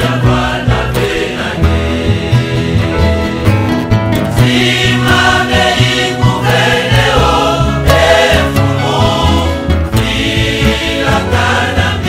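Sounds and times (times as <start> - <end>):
choir singing: 0.0 - 3.4, 4.3 - 12.0.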